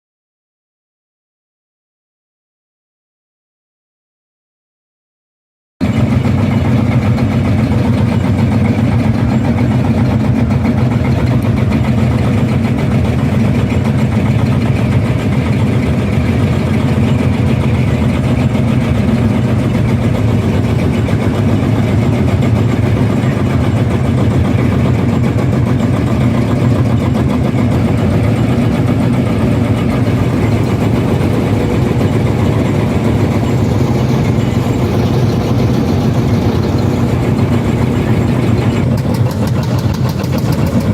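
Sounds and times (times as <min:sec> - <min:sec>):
tractor engine running: 0:05.8 - 0:40.9.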